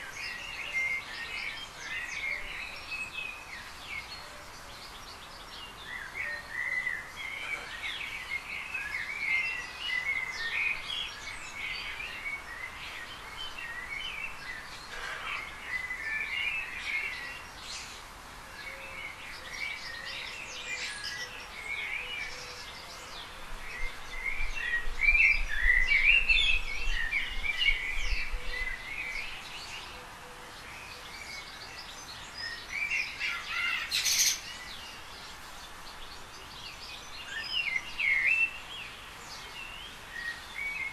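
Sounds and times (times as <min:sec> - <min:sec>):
small birds singing: 0:00.0 - 0:40.9.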